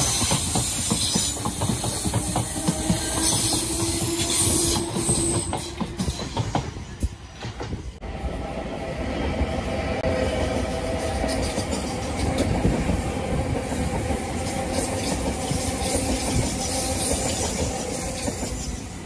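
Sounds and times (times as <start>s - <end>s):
train wheels clattering over track: 0.0s - 8.0s, 9.4s - 19.0s
electric train humming: 0.0s - 19.0s.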